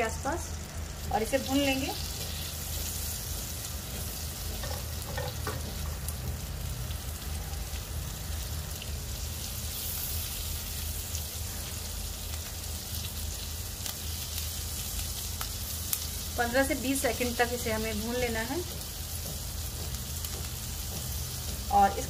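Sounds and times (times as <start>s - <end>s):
garlic sizzling in a pan: 0.0s - 22.0s.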